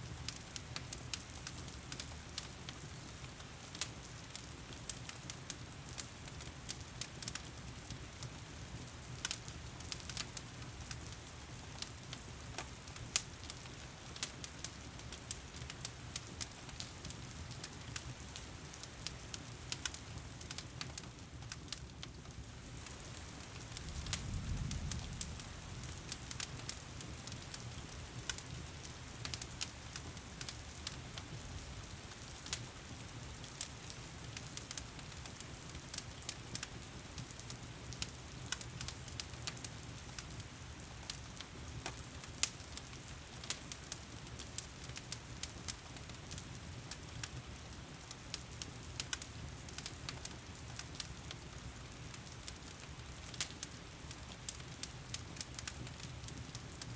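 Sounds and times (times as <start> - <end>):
wood fire popping and snapping: 0.0 - 56.9.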